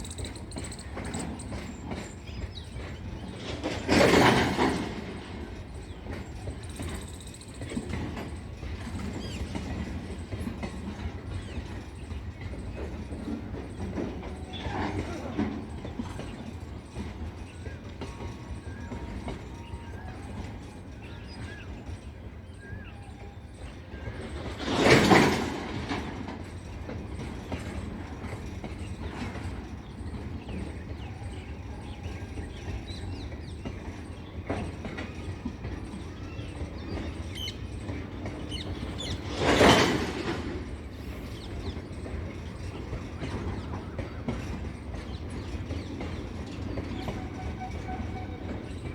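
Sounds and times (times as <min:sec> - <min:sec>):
goods train rumbling past: 0:00.0 - 0:48.9.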